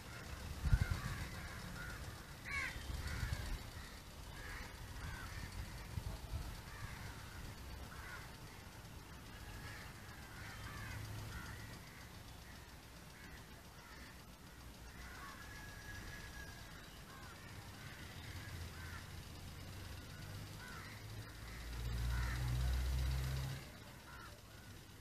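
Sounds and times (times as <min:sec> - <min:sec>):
crows cawing: 0:00.0 - 0:25.0.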